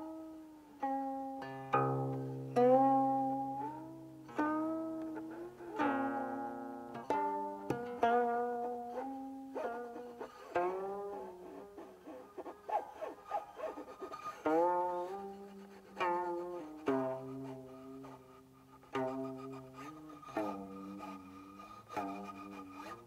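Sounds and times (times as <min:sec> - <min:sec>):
guqin plucked notes sliding: 0:00.0 - 0:23.0.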